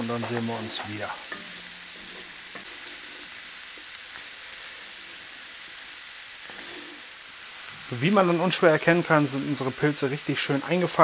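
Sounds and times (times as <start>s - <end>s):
food sizzling in pan: 0.0s - 11.0s.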